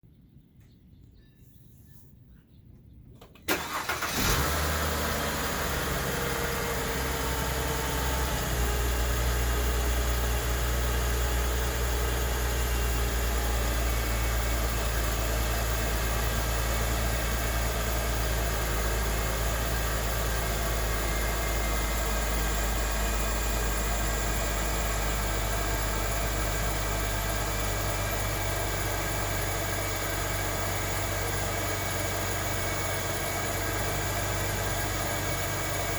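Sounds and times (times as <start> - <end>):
car engine starting and idling: 3.2 - 35.9.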